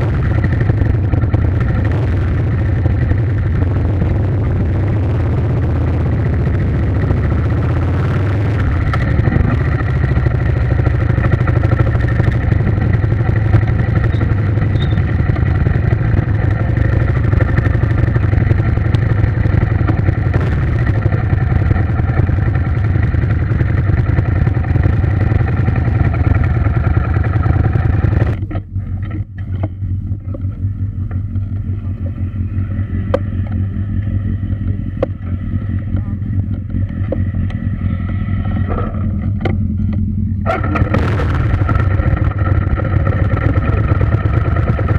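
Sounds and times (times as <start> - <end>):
engine drone: 0.0 - 44.9
muffled sound: 0.0 - 44.9.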